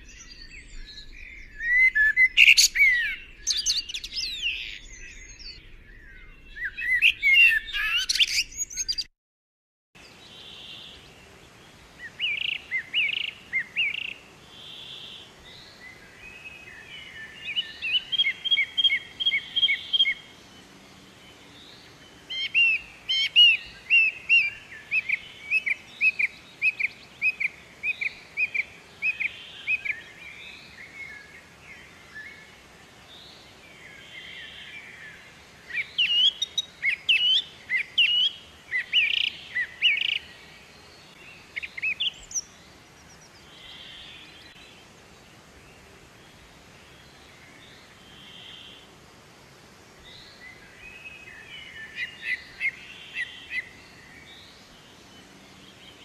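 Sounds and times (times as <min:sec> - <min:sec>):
songbirds chirping and trilling: 0:00.0 - 0:09.1, 0:10.0 - 0:56.0.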